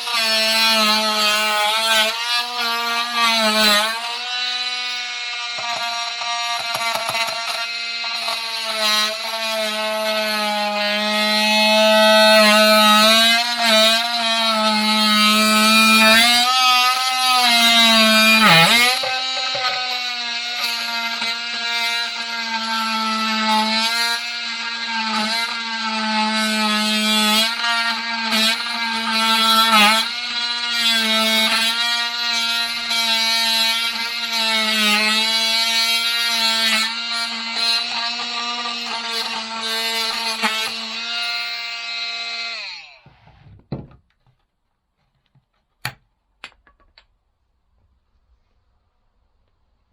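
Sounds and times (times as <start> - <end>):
oscillating tool buzzing: 0.0 - 43.0.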